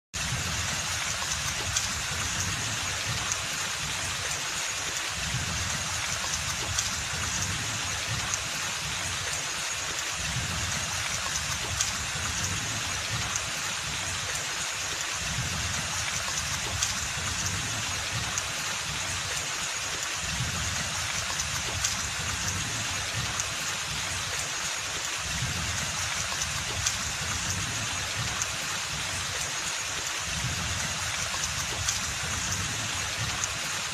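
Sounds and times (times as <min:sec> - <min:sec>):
steady rain in forest: 0:00.1 - 0:33.9.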